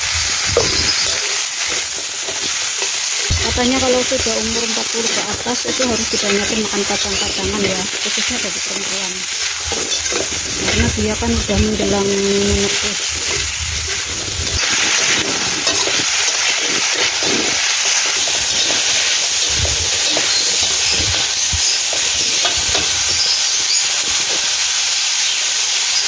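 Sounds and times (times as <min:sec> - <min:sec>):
spatula scraping a wok: 0:00.0 - 0:23.8
vegetables sizzling in oil: 0:00.0 - 0:26.0.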